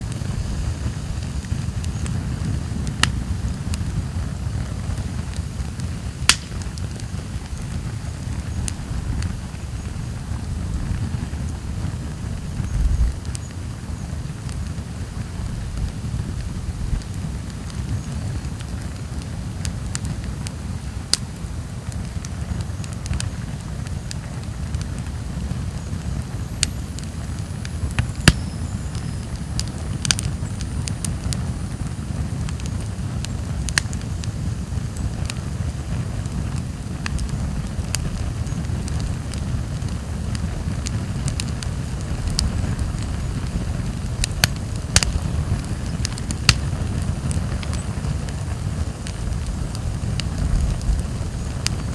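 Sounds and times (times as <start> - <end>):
campfire crackling and popping: 0.0 - 51.9
fire low rumble: 0.0 - 51.9.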